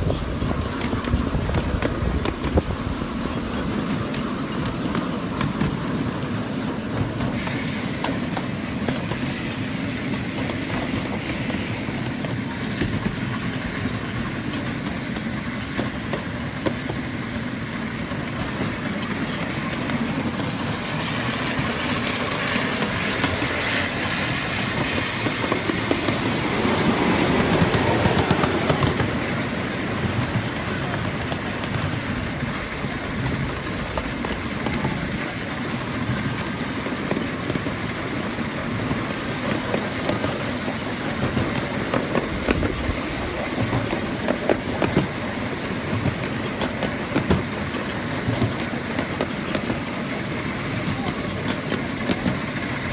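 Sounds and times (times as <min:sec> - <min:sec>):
steam hissing: 0:00.0 - 0:52.9
wheels rolling on rails: 0:00.0 - 0:52.9.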